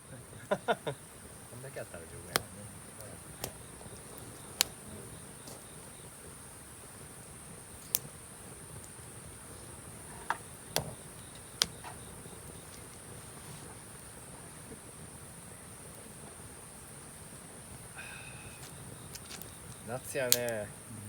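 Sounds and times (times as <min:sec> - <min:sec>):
sharp pops of fire: 0:00.0 - 0:20.9
campfire crackling: 0:00.0 - 0:21.0
night insects chirring: 0:00.0 - 0:21.0.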